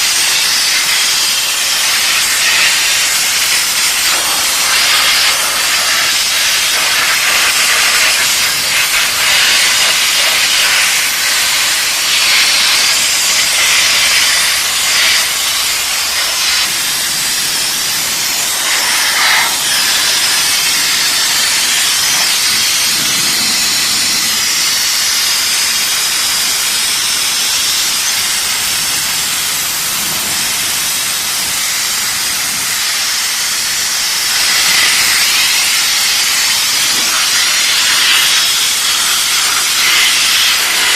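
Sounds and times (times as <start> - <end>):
steam jet hissing: 0.0 - 40.9.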